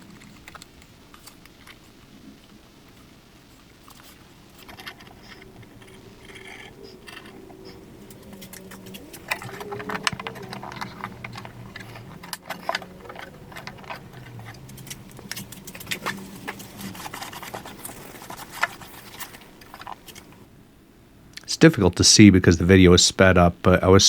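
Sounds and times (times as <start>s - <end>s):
low wavering hum: 0.0s - 20.6s.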